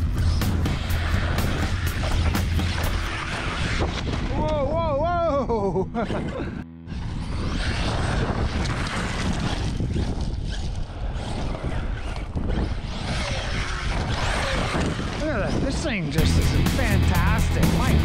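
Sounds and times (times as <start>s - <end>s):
rc truck driving on gravel: 0.0s - 4.4s, 6.9s - 18.0s
wind noise on microphone: 0.0s - 16.2s.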